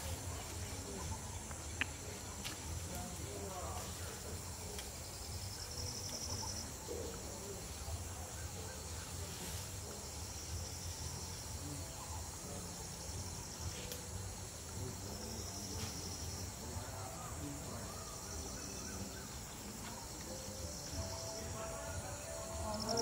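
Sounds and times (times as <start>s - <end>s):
chorus of insects: 0.0s - 23.0s
pulsed cricket trill: 0.0s - 23.0s.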